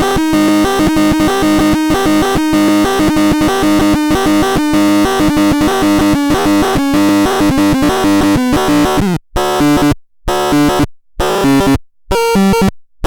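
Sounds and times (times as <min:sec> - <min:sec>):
synthesized electronic melody: 0:00.0 - 0:11.6.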